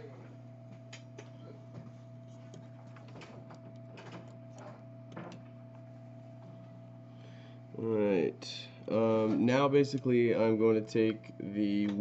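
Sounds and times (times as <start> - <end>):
electrical hum with high whine: 0.0 - 12.0.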